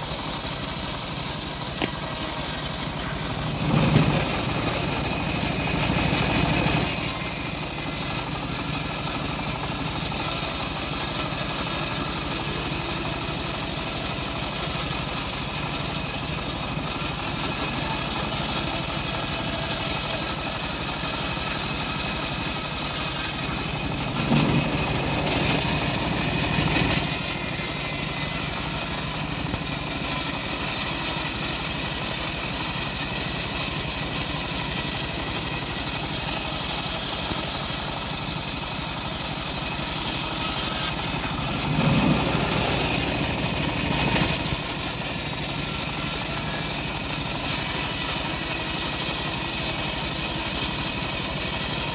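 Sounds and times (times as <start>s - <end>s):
chainsaw cutting timber: 0.0s - 51.9s.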